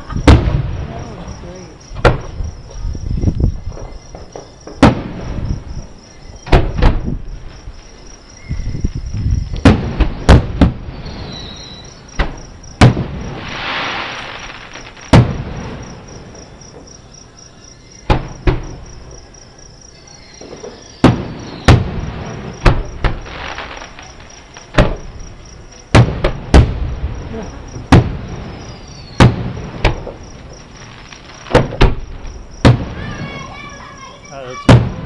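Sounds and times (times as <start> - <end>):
distant fireworks booming: 0.0 - 17.2, 18.0 - 35.0
crickets chirping: 0.0 - 35.0.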